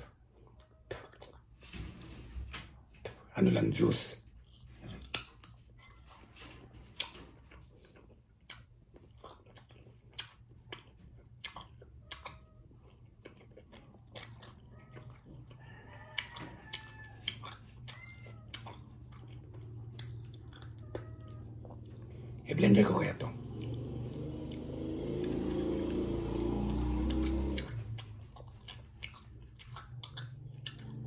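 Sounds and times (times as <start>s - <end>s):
wet mouth sounds: 0.0s - 1.6s, 6.9s - 15.6s, 16.2s - 31.0s.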